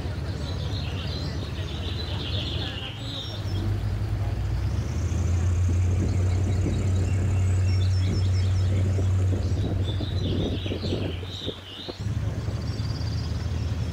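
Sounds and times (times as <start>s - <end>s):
airboat engine and propeller: 0.0s - 13.9s.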